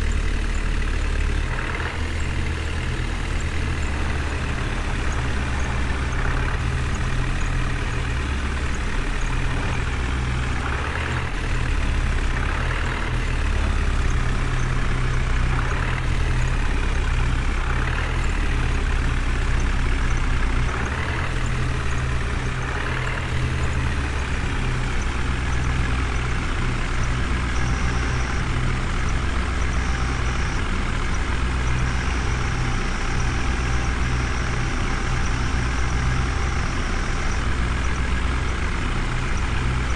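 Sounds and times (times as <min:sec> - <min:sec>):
heavy vehicle engine rumbling: 0:00.0 - 0:39.9.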